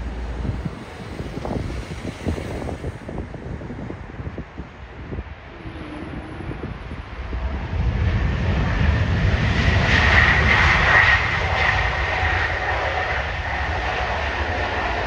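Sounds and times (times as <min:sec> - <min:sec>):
jet engine rumble and whine: 0:00.0 - 0:15.0.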